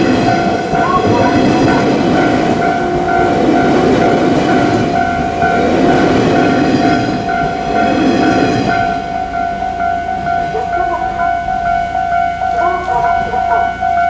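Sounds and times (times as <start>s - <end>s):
level crossing warning bell: 0.0s - 14.0s
train wheels rumbling on rails: 0.0s - 14.0s.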